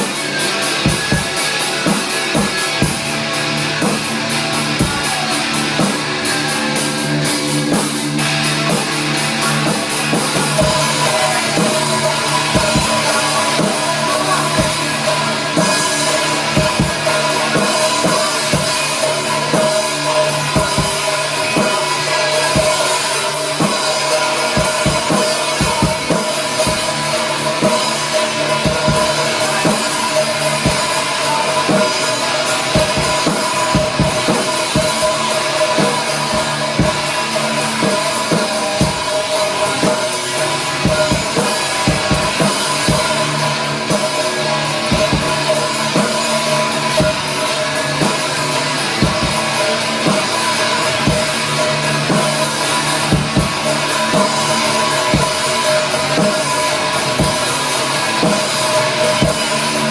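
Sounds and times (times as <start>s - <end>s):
drum kit hitting: 0.0s - 59.9s
rock band playing: 0.0s - 59.9s.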